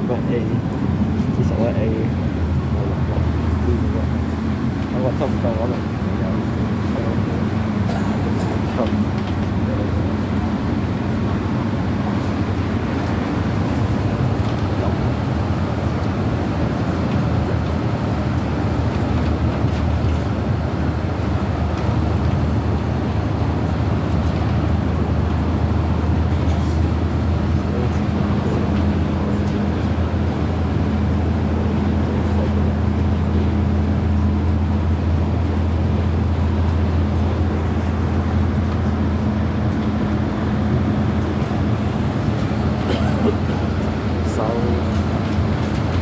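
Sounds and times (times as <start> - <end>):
vehicle running rumble: 0.0 - 46.0.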